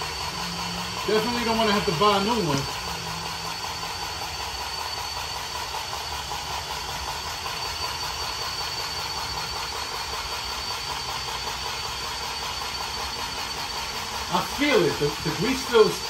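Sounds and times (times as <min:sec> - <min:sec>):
grease gun motor whining: 0:00.0 - 0:16.0.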